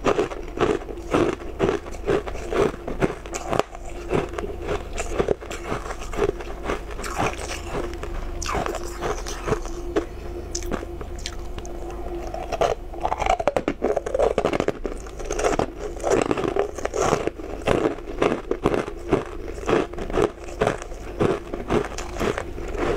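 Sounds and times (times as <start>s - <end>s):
chewing crushed ice: 0.0s - 22.9s.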